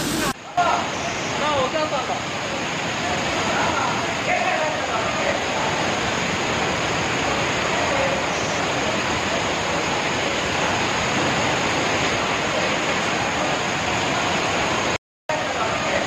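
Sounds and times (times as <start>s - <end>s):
heavy rain: 0.0s - 16.0s
water rushing: 0.0s - 16.0s.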